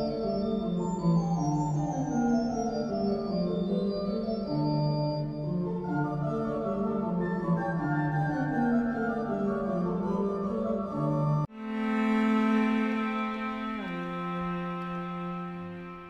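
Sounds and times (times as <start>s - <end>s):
slow organ music: 0.0s - 16.0s.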